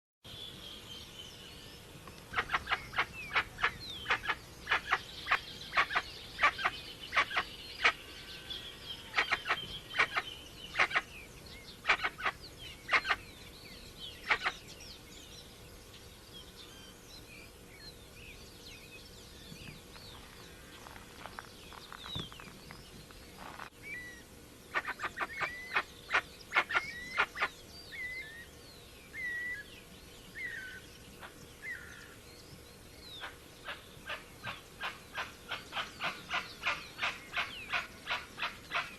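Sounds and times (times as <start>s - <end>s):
small birds chirping and whistling: 0.3s - 38.9s.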